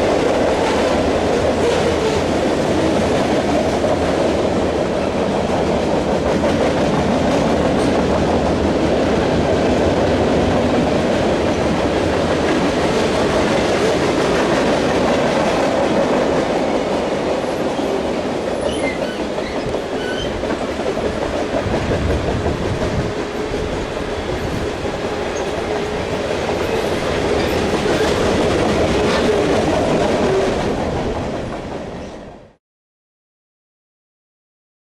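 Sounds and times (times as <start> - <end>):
wheels clacking over rail joints: 0.0 - 31.6
train rumble: 0.0 - 32.6.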